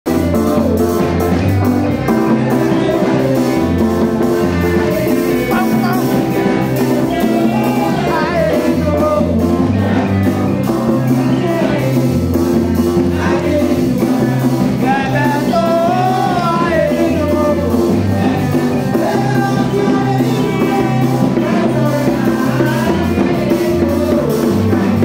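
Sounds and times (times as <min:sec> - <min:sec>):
gospel singing: 0:00.0 - 0:25.0
bass line: 0:00.1 - 0:25.0
drum beat: 0:00.1 - 0:25.0.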